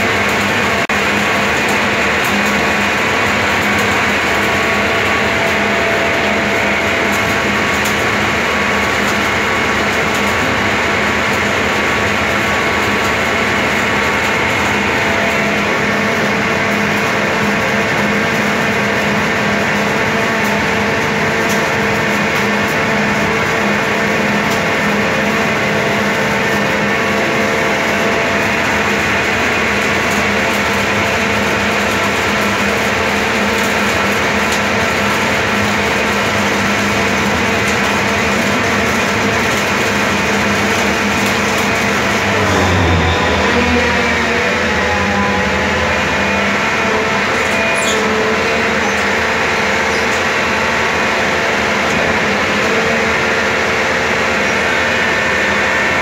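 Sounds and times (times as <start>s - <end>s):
welding machine hum: 0.0s - 56.0s.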